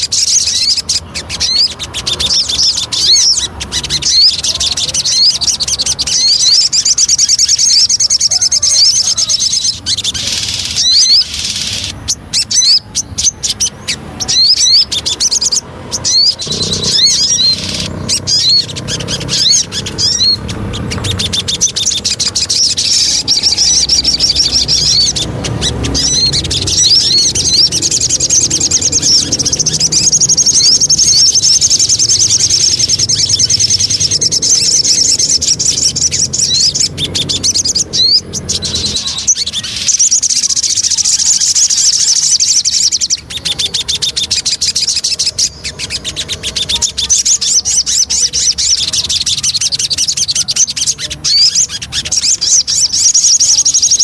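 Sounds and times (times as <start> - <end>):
songbird chirps and trills: 0.0 - 54.0.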